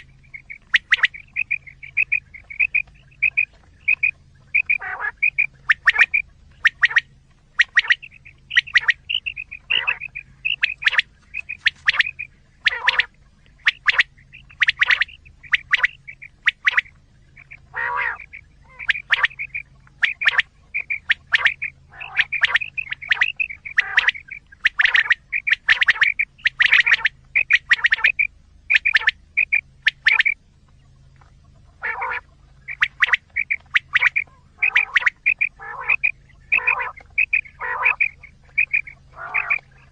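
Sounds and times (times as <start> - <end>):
quail calls: 0.0 - 39.9.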